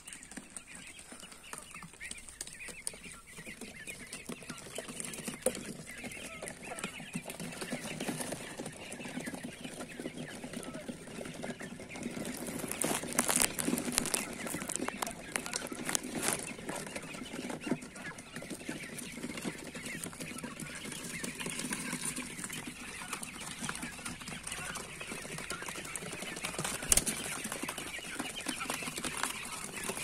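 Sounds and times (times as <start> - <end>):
quail chirping and peeping: 0.0 - 30.0
rustling in wood shavings: 0.0 - 30.0.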